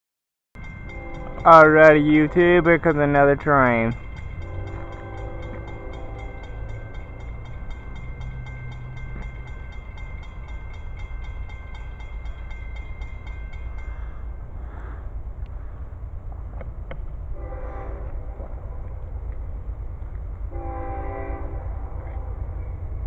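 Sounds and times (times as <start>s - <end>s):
train locomotive rumble: 0.6s - 23.0s.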